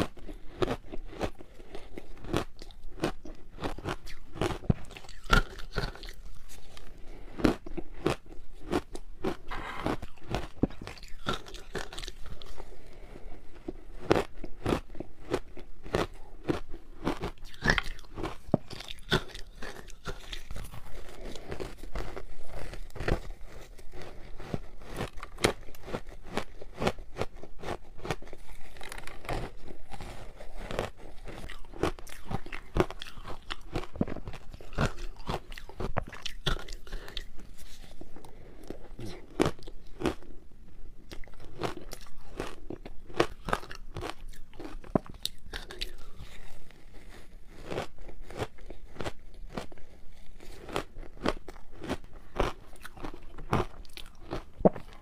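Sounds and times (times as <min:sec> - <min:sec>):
crunching ice with teeth: 0:00.0 - 0:55.0.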